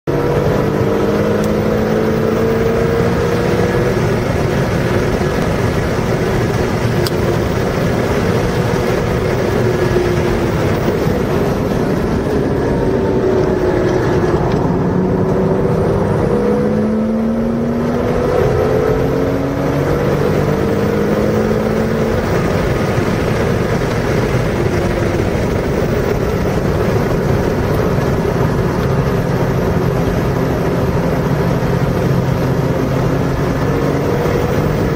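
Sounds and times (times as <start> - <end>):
car engine accelerating: 0.0 - 34.9
road and wind noise: 0.0 - 34.9.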